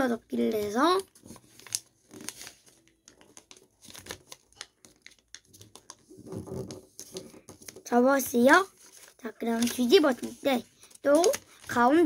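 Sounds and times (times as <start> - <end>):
paper rustling and crinkling: 0.5 - 12.0.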